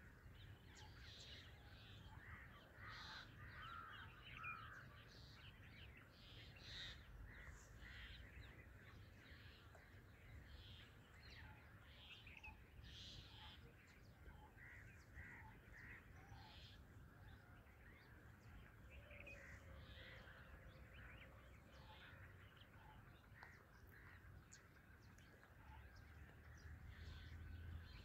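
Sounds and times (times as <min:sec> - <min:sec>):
birds calling and chirping: 0:00.0 - 0:28.0.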